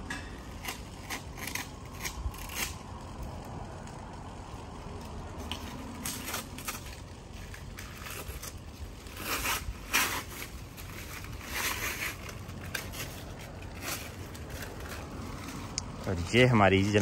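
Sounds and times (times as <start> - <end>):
low steady rumble: 0.0 - 17.0
masking tape peeling and ripping: 0.0 - 17.0.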